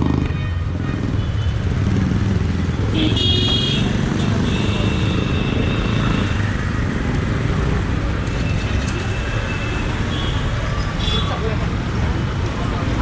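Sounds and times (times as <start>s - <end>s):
traffic: 0.0s - 13.0s.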